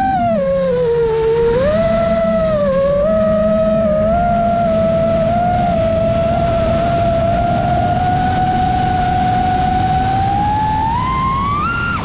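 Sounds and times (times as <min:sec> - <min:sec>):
drone motors whining: 0:00.0 - 0:12.0
wind rushing: 0:00.0 - 0:12.0.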